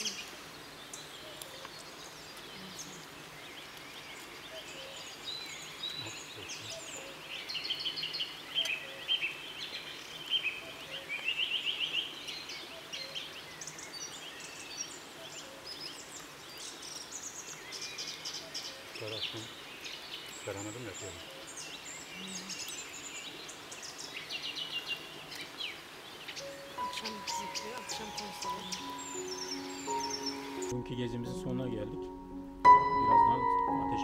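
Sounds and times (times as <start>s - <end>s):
small birds chirping and trilling: 0.0s - 32.0s.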